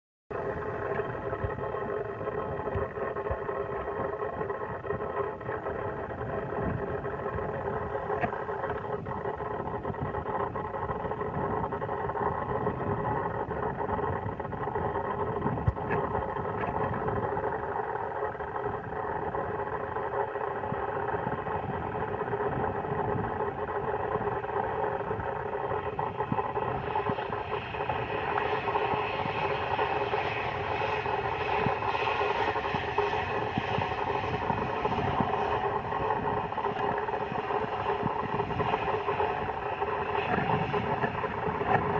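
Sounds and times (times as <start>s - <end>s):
jet engines whining: 0.3s - 41.9s.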